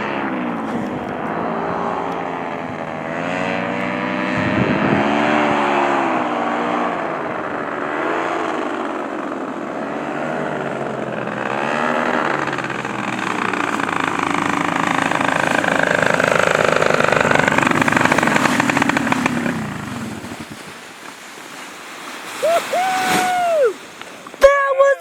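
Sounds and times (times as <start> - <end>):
paramotor engine and propeller: 0.0 - 24.4.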